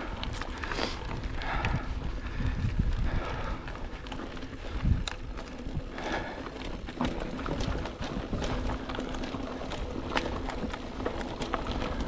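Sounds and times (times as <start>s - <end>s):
bike clicking and rattling: 0.0s - 12.0s
bike tyres on dirt trail: 0.0s - 12.0s.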